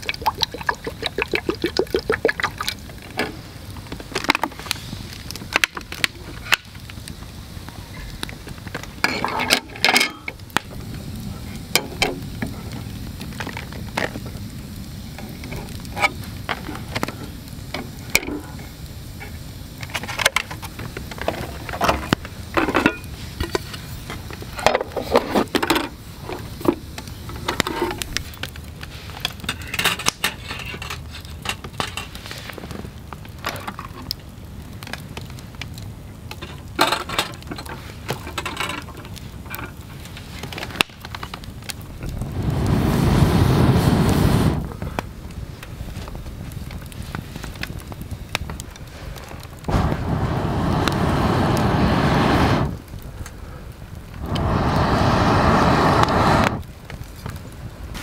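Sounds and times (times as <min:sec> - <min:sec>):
steady low background noise: 0:00.0 - 0:58.0.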